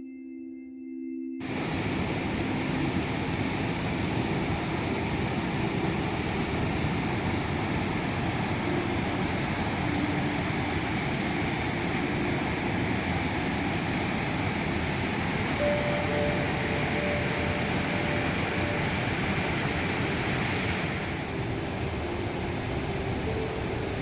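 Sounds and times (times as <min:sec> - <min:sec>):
waterfall rushing: 0:01.4 - 0:24.0.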